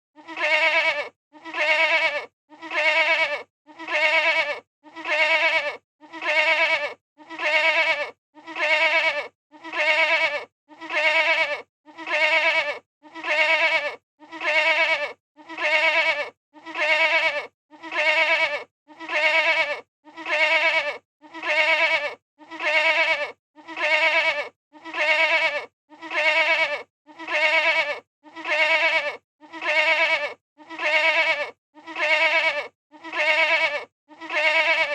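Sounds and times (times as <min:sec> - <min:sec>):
goat bleating: 0:00.2 - 0:34.9.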